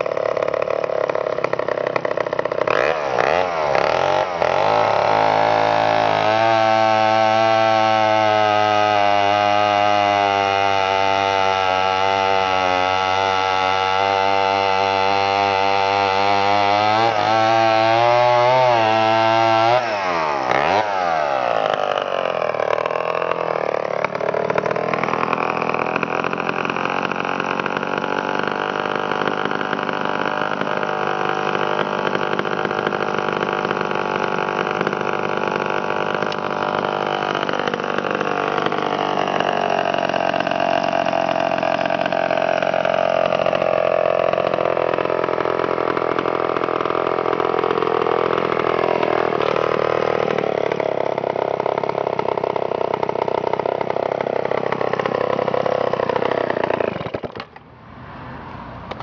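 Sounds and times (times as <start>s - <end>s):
chainsaw idling: 0.0s - 57.8s, 58.7s - 59.0s
chainsaw coming off throttle: 0.0s - 59.0s.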